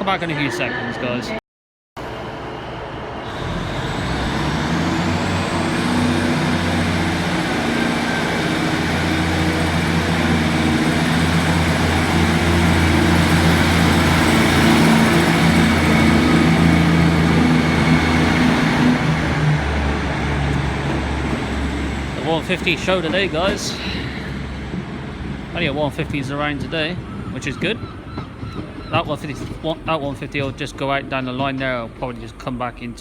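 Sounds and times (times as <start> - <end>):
diesel train engines running: 2.0 - 33.0.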